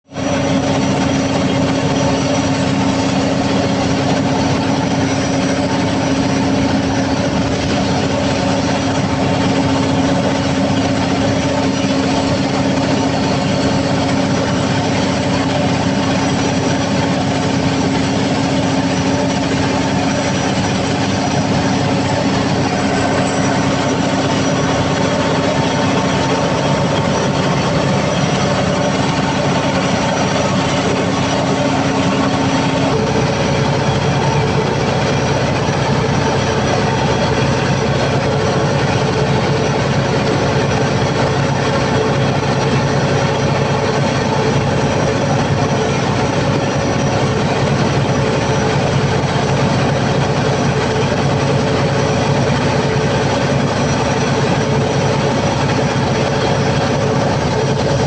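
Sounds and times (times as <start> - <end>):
diesel generator engine roaring: 0.0 - 58.0.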